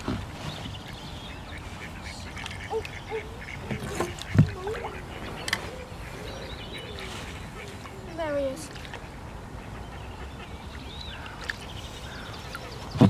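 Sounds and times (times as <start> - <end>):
ducks quacking: 0.7 - 12.9.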